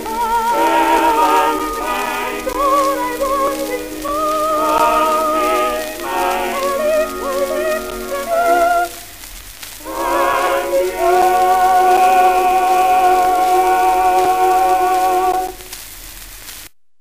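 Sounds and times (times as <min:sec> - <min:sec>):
soprano singing with vibrato: 0:00.0 - 0:09.1, 0:09.8 - 0:15.7
backing voices and accompaniment: 0:00.0 - 0:09.2, 0:09.8 - 0:15.6
record surface hiss and crackle: 0:00.0 - 0:16.8.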